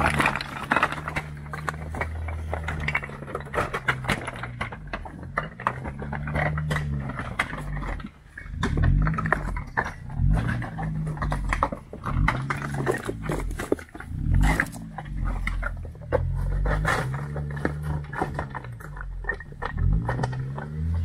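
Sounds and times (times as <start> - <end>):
rocks crunching under tyres: 0.0 - 21.0
truck engine revving at low speed: 0.0 - 21.0.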